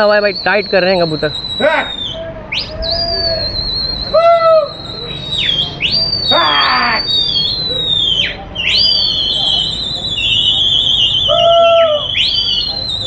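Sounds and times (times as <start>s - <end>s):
loud hooting call: 0.0s - 13.0s
people whistling: 0.0s - 13.0s
rough call: 0.6s - 13.0s.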